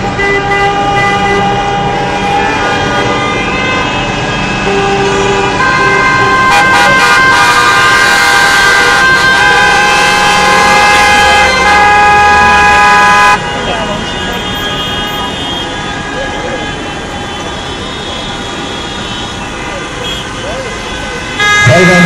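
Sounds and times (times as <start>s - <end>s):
car horns honking: 0.0s - 22.0s.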